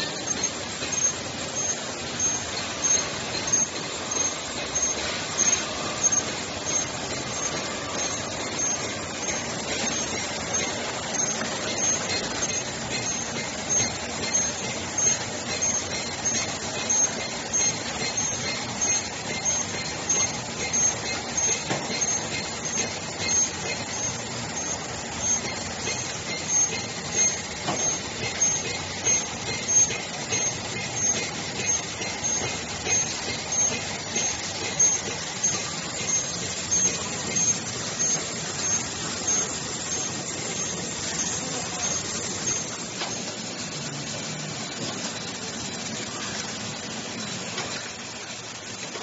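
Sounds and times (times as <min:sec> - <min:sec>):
bottling machine running: 0:00.0 - 0:49.0.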